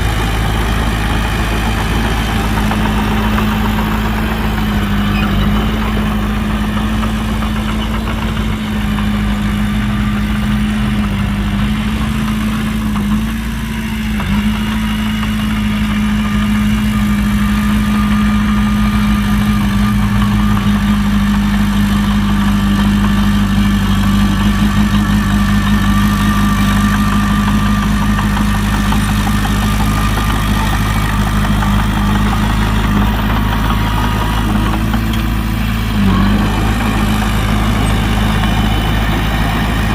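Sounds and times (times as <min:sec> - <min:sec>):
diesel engine running at low revs: 0:00.0 - 0:39.9.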